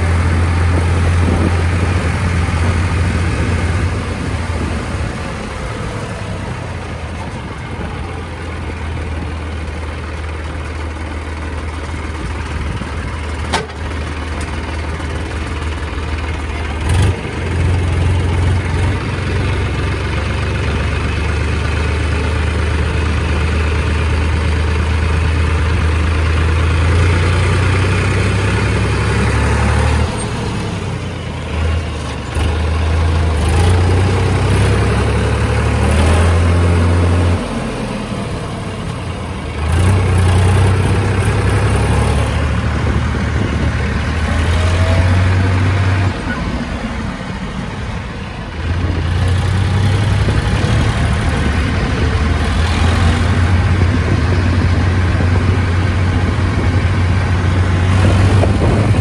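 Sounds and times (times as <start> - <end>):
tractor diesel engine drone: 0.0 - 59.0.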